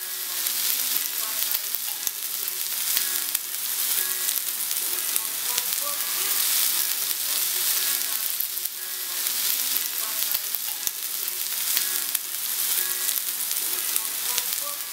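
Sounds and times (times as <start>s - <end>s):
meat sizzling on grill: 0.0s - 14.9s
small crackles and pops: 0.0s - 14.9s.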